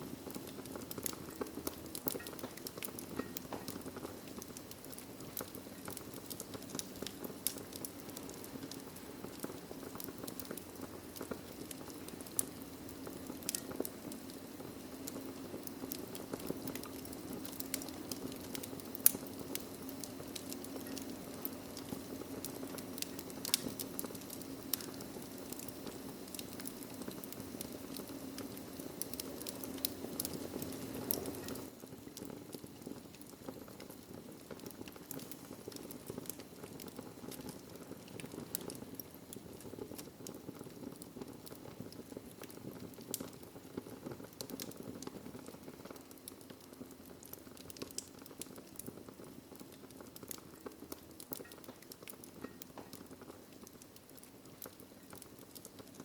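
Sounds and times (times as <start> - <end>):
low rumble of burning: 0.0 - 56.0
wood fire pops and snaps: 0.0 - 56.0.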